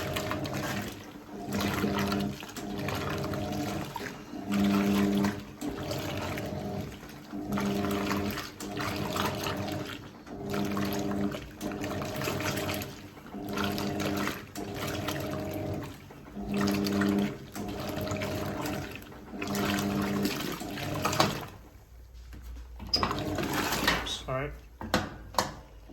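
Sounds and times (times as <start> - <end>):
washing machine motor hum: 0.0 - 25.9
water churning and sloshing: 0.0 - 25.9.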